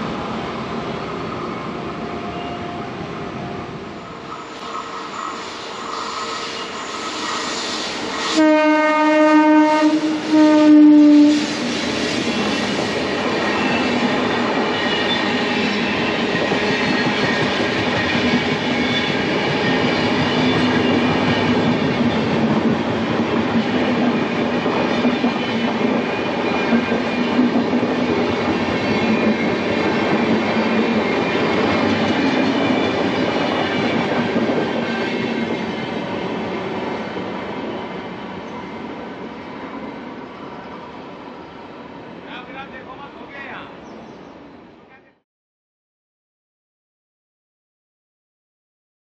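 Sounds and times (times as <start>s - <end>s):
train wheels rumbling on rail: 0.0s - 44.2s.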